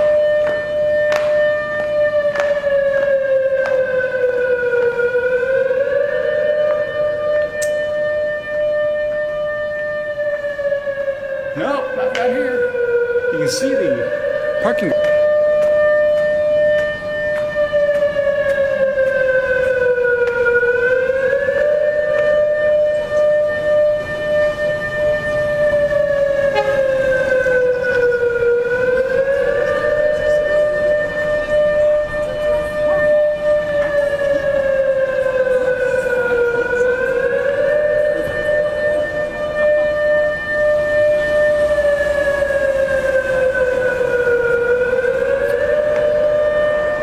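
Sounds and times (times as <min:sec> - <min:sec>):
siren wailing: 0:00.0 - 0:47.0.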